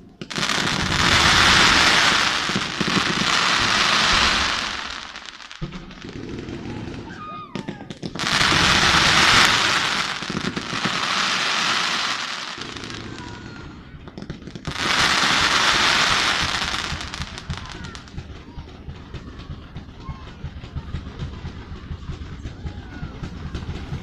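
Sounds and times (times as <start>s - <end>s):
fireworks hissing and crackling: 0.0s - 19.8s.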